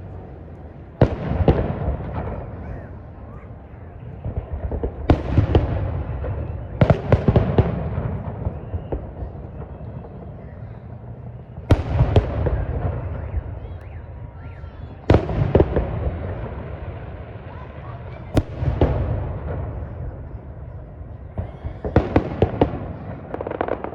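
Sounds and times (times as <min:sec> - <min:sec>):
fireworks bangs: 0:00.0 - 0:23.9.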